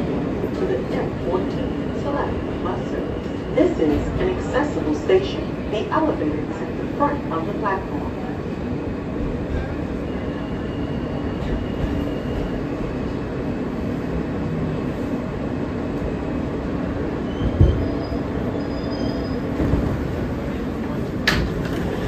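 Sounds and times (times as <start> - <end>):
subway wheels rumbling on track: 0.0 - 22.0.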